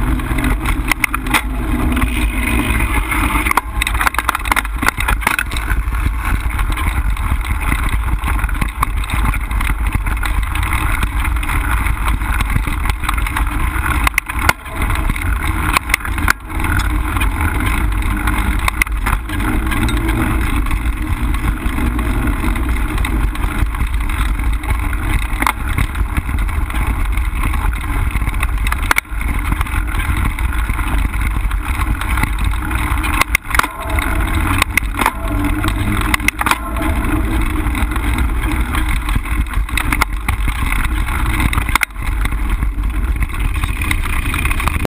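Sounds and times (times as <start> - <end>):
bike knocking and rattling: 0.0 - 44.9
tyres rolling on dirt: 0.0 - 44.9.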